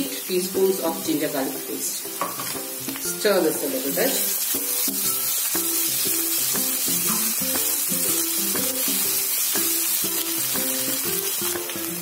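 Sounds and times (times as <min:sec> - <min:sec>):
background music: 0:00.0 - 0:12.0
food sizzling in hot oil: 0:00.0 - 0:12.0.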